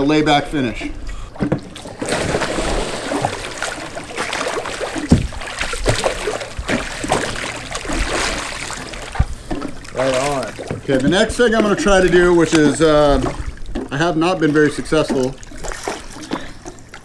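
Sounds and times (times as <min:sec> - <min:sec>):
water sloshing and splashing: 0:00.0 - 0:17.0
paddle sweeping water: 0:00.7 - 0:17.0.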